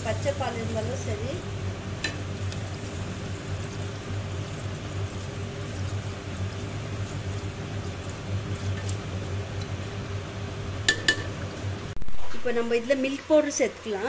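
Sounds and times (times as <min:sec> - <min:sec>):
kitchen low hum: 0:00.0 - 0:14.0.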